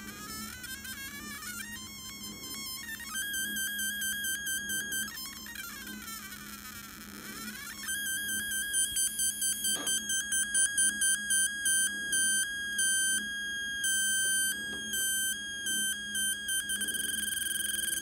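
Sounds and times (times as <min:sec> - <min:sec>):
buzzy electronic square-wave tone: 0:00.0 - 0:18.0.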